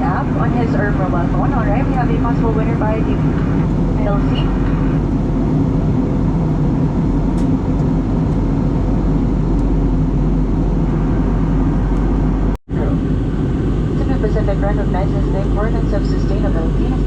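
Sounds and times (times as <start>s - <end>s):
airliner cabin drone: 0.0s - 17.0s
low hum: 0.0s - 17.0s.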